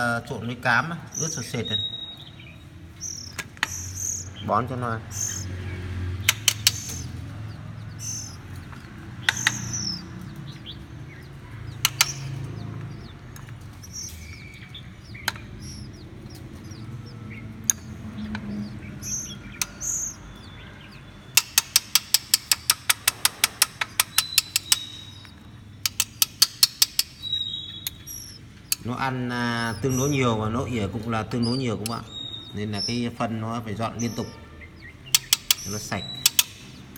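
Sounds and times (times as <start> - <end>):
nestlings begging chirps: 0.0 - 36.9
sharp clicks: 1.2 - 4.4, 5.1 - 33.1, 33.7 - 36.9.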